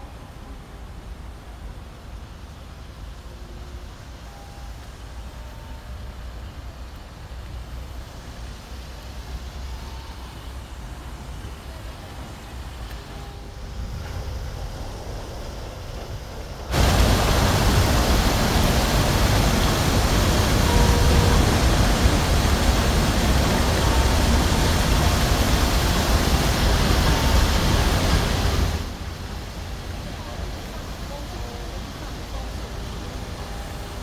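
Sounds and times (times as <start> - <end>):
loud steady rushing noise: 6.7 - 34.0.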